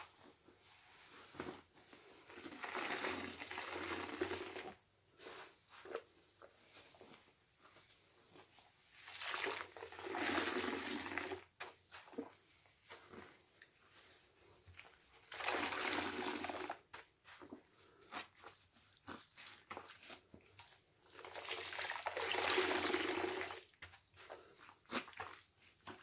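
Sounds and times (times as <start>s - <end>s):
sponge squelching suds: 0.0s - 26.0s.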